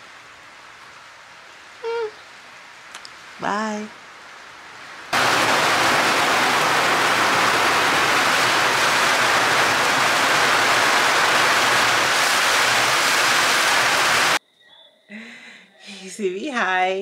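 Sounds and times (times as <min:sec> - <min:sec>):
gusting wind through trees: 0:00.0 - 0:14.4
torrential rain: 0:00.0 - 0:14.4.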